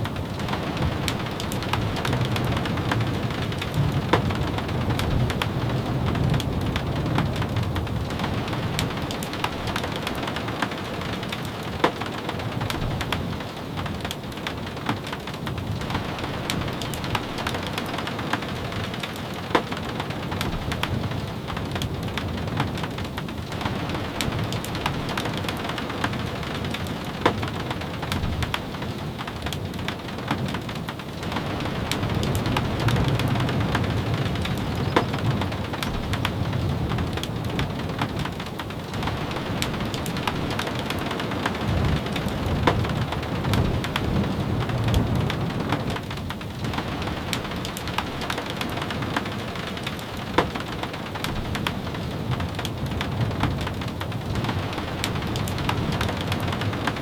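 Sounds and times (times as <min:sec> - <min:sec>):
sharp crackles and ticks: 0:00.0 - 0:57.0
steady rain falling: 0:00.0 - 0:57.0.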